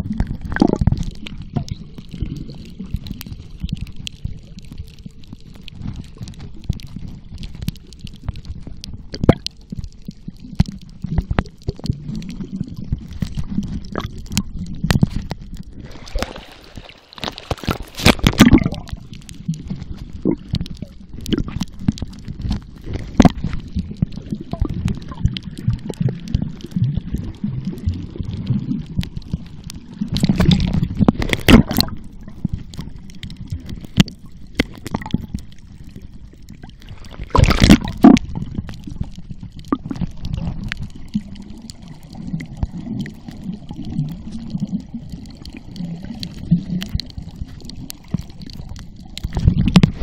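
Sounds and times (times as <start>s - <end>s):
sharp underwater clicks: 0.0s - 50.0s
underwater sloshing and gurgling: 0.0s - 50.0s.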